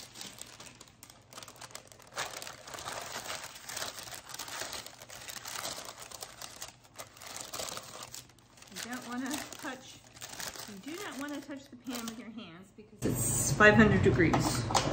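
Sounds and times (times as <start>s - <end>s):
parchment paper crinkling: 0.0s - 12.4s.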